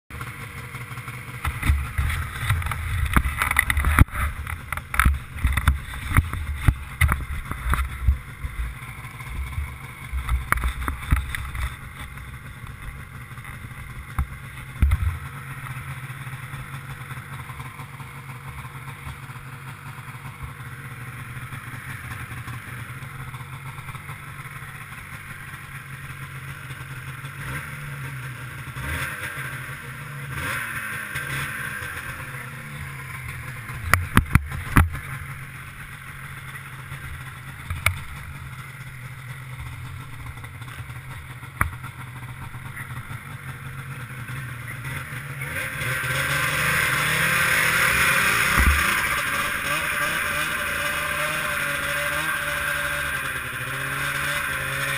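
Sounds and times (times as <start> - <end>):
snowmobile engine running: 0.1 - 54.9.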